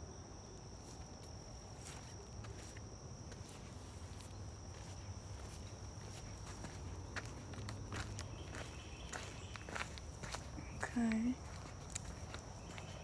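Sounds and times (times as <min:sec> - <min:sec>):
footsteps on a trail: 0:00.8 - 0:13.0.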